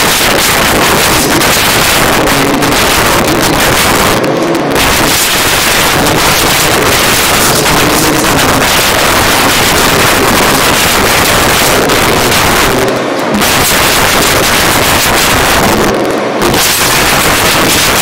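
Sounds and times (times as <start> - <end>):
loud steady rushing noise: 0.0 - 18.0.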